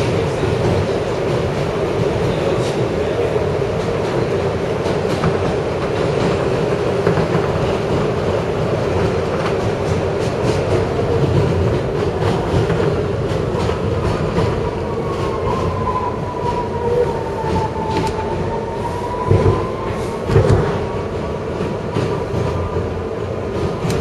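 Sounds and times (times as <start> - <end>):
subway train rumble and hum: 0.0 - 24.0.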